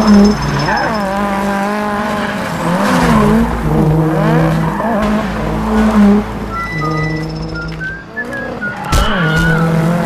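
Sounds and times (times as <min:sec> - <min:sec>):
tyres squealing: 0:00.0 - 0:03.1, 0:04.3 - 0:10.0
race car engine revving: 0:00.0 - 0:10.0.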